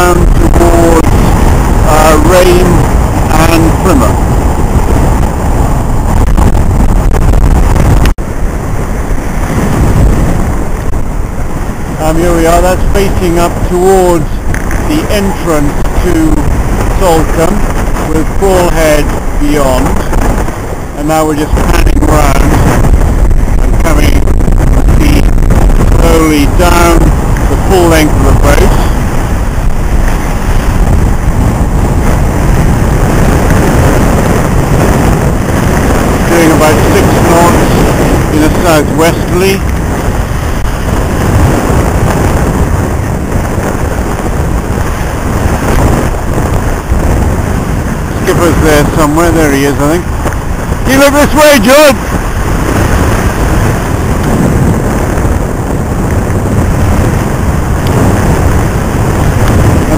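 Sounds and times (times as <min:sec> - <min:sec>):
water rushing along hull: 0:00.0 - 0:59.9
wind buffeting microphone: 0:00.0 - 0:59.9.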